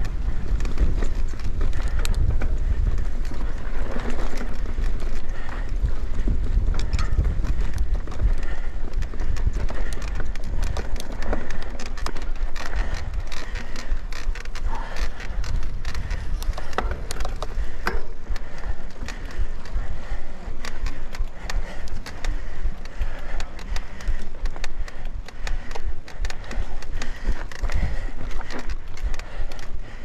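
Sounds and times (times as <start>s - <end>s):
bike rattling over bumps: 0.0s - 30.0s
tyre noise on dirt: 0.0s - 30.0s
wind buffeting microphone: 0.0s - 30.0s.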